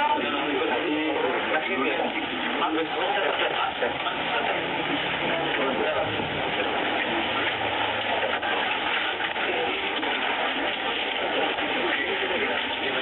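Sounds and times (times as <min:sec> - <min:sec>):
crowd talking: 0:00.0 - 0:13.0.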